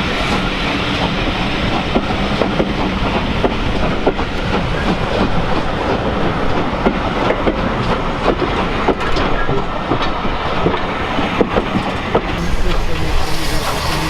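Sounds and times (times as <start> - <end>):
train wheels rumbling on rail: 0.0 - 14.0
track clicks and knocks: 0.2 - 13.2.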